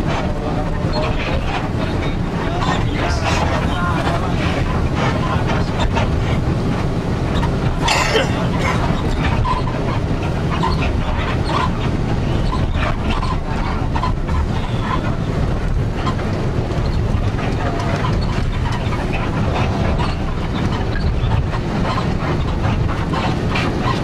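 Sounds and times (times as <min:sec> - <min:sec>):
rattles and clatter: 0:00.0 - 0:24.0
vehicle rumbling: 0:00.0 - 0:24.0.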